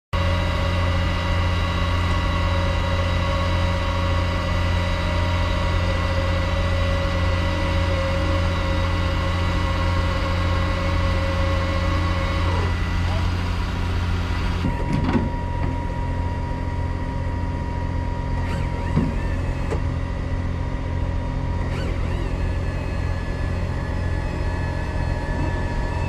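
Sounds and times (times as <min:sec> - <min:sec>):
diesel engine idling: 0:00.3 - 0:26.0.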